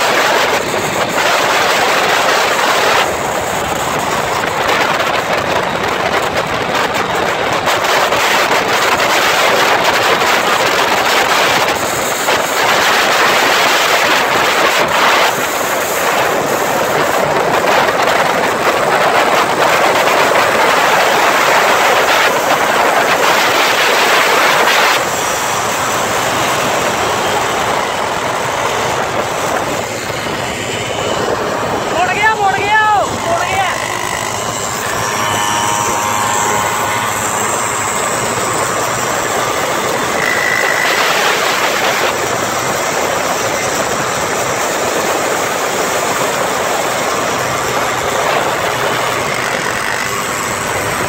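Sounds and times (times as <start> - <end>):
wind and road noise: 0.0 - 51.0.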